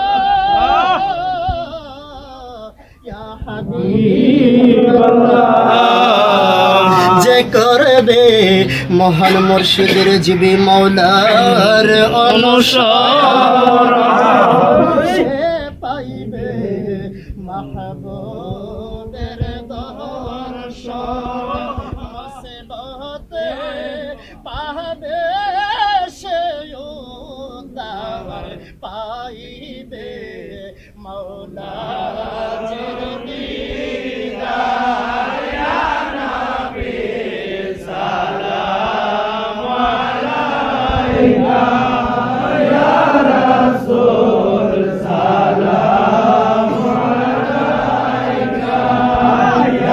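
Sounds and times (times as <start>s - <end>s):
men chanting together: 0.0s - 49.9s.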